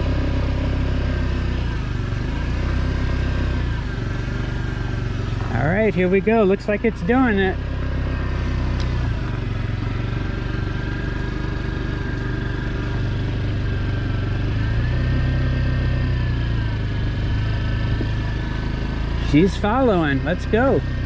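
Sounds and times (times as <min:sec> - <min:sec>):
motor scooter running: 0:00.0 - 0:21.0.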